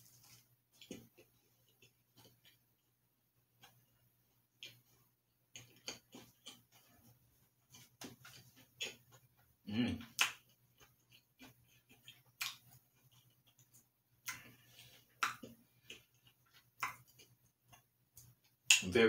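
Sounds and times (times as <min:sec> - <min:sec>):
person chewing: 0:00.0 - 0:18.9.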